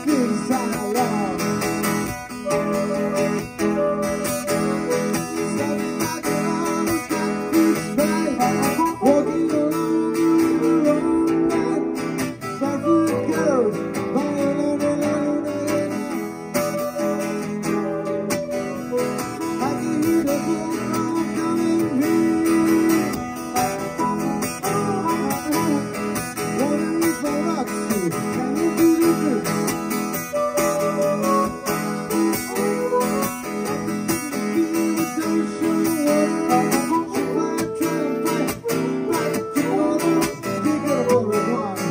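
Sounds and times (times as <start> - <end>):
acoustic guitar strummed and picked: 0.0 - 41.9
amplified harmonica bending notes: 0.0 - 41.9.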